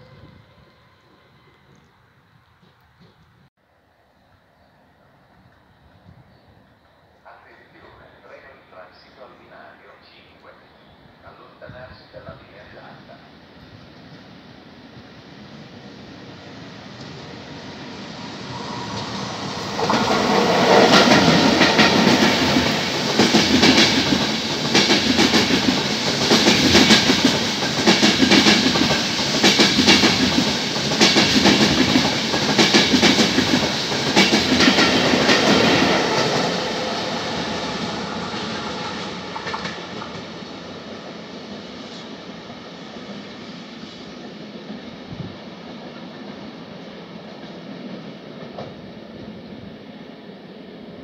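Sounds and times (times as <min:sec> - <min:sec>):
train passing at speed: 0:00.0 - 0:51.0.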